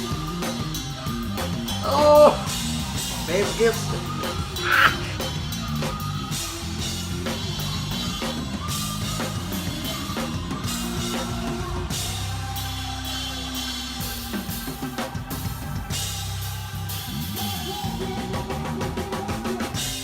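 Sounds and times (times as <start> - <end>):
drum kit playing busily: 0.0 - 20.0
held bass line: 0.0 - 20.0.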